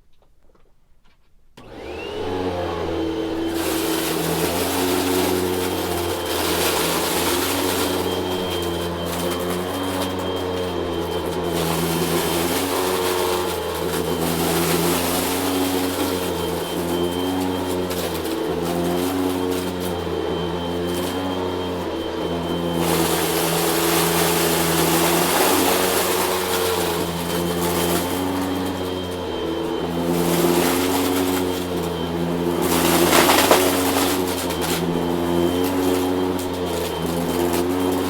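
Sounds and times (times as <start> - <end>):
vacuum cleaner running: 1.6 - 38.0.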